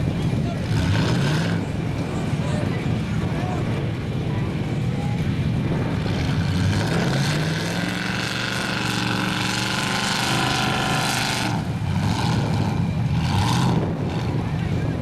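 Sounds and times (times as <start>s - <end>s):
truck engine revving hard: 0.0s - 3.9s, 5.3s - 15.0s.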